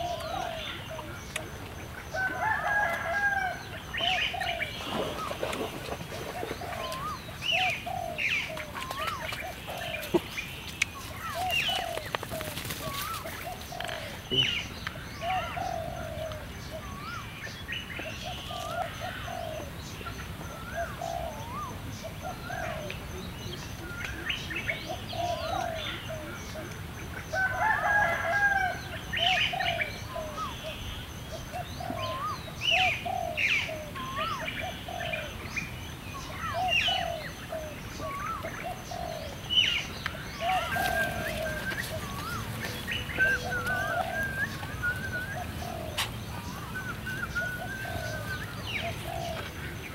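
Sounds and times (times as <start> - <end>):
birds chirping and whistling: 0.0 - 1.4, 2.4 - 26.6, 27.3 - 49.9.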